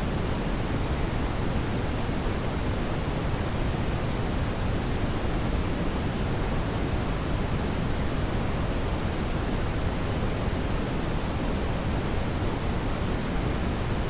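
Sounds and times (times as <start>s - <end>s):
brown noise hiss: 0.0s - 14.0s.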